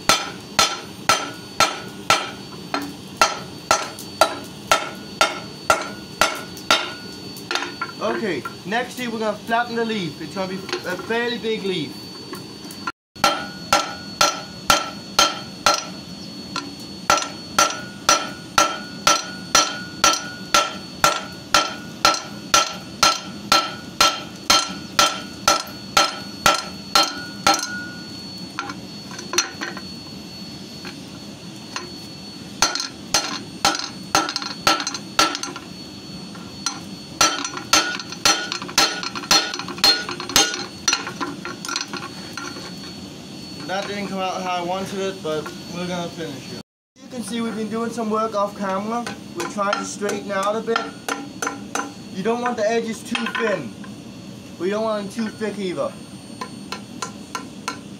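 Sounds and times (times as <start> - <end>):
hammer striking hot steel on anvil: 0.0 - 9.1, 10.3 - 11.3, 13.2 - 30.0, 31.7 - 45.7, 47.0 - 54.0, 56.4 - 57.9.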